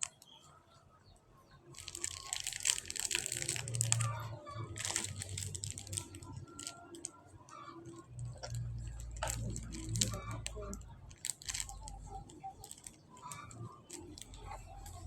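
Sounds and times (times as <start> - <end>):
objects being handled: 1.7 - 7.2, 7.8 - 15.0.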